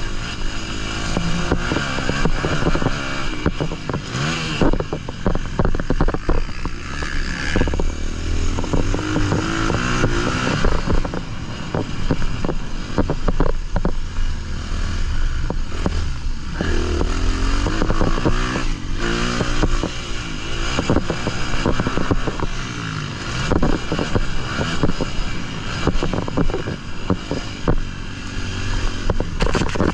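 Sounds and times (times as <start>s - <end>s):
bike rattling over rough track: 0.0s - 29.9s
motocross bike engine revving: 0.0s - 29.9s.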